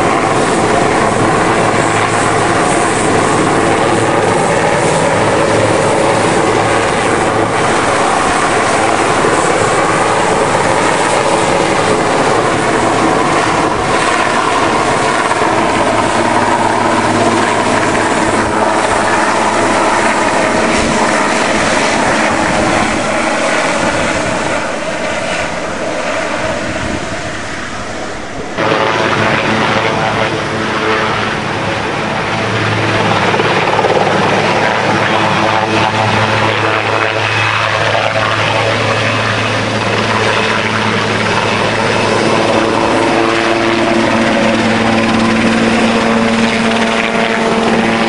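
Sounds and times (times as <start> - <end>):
helicopter flying overhead: 0.0 - 48.0.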